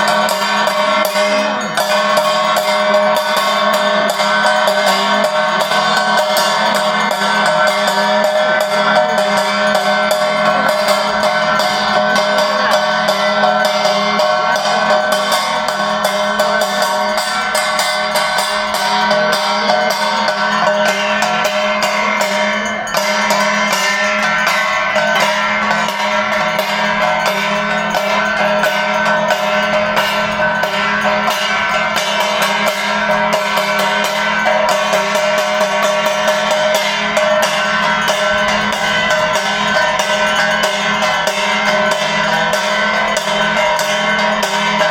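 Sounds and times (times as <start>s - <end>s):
fast percussion: 0.0s - 44.9s
ringing bell tones: 0.0s - 44.9s.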